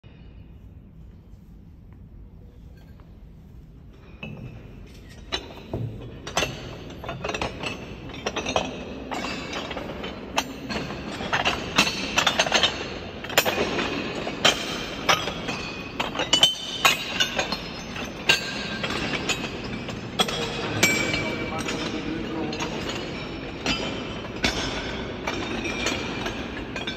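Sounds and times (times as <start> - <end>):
footsteps on clanking iron plates: 2.6 - 26.9.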